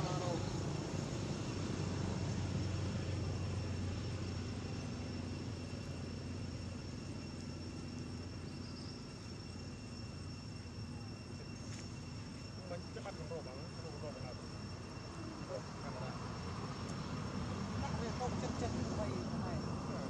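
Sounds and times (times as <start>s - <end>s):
distant engine-like rumble: 0.0s - 20.0s
high insect drone: 0.0s - 20.0s.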